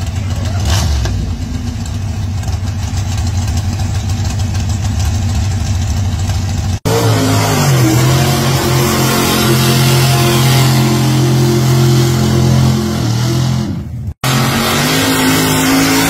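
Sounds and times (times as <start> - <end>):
truck engine rumbling and revving: 0.0 - 16.0.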